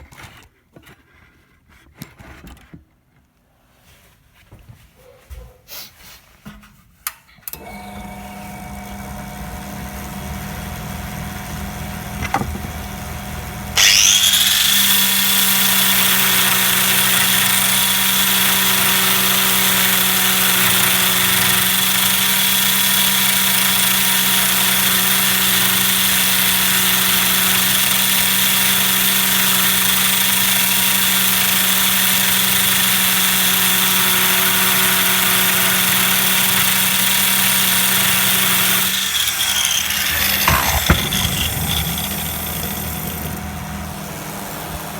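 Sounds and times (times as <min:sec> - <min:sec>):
electric fan whirring: 0:07.6 - 0:44.9.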